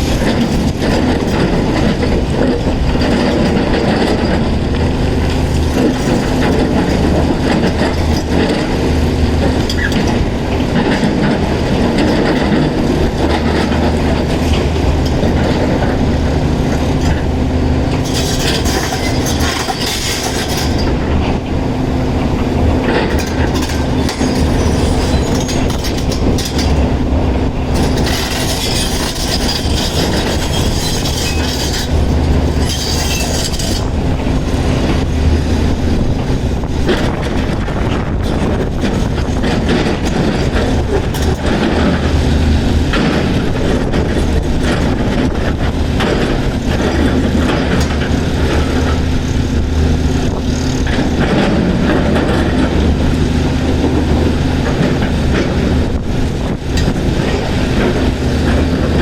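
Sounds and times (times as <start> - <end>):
diesel engine running under load: 0.0 - 59.0
steel grinding against rock: 0.0 - 59.0.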